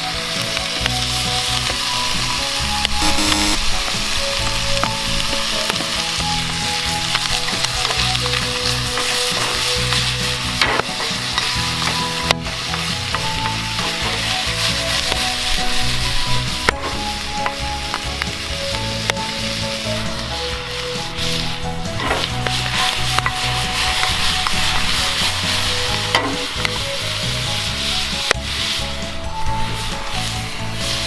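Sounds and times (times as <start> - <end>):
food sizzling in a pan: 0.0 - 31.0
sharp frying pops: 0.0 - 31.0.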